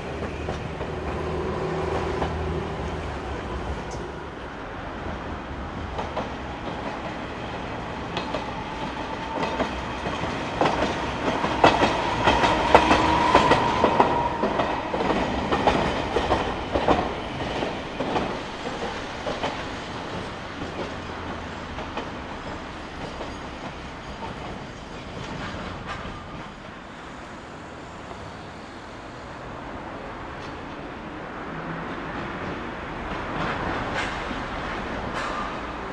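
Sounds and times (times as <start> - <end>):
streetcar wheels clacking over rails: 0.0 - 27.4, 30.0 - 35.9.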